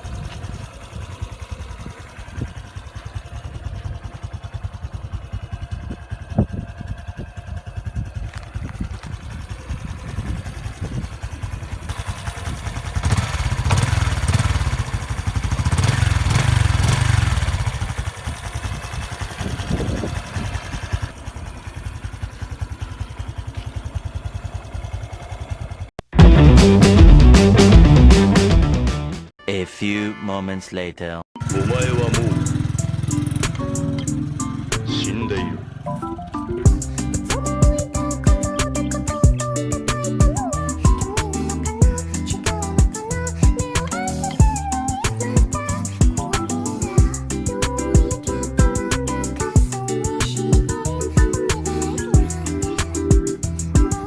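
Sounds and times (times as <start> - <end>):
motorcycle engine idling and revving: 0.0 - 29.0, 31.4 - 54.0.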